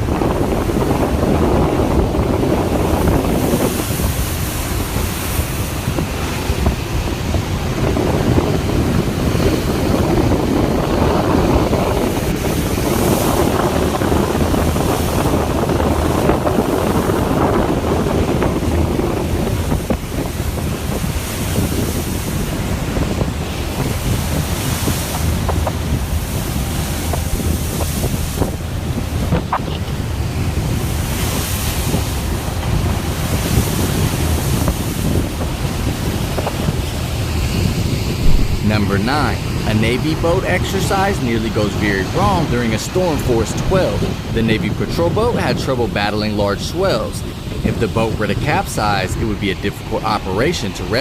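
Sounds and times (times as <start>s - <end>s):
heavy ocean waves: 0.0s - 51.0s
storm wind: 0.0s - 51.0s
wind rumbling on microphone: 0.0s - 51.0s.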